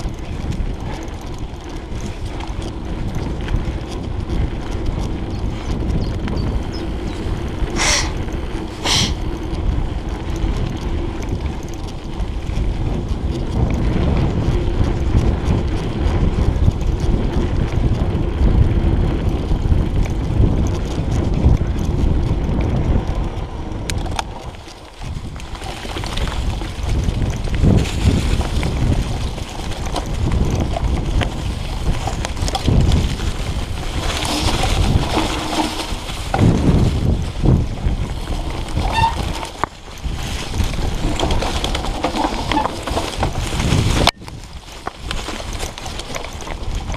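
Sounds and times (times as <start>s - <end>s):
bike tyres rolling on gravel: 0.0s - 46.9s
wind noise on microphone: 0.0s - 46.9s.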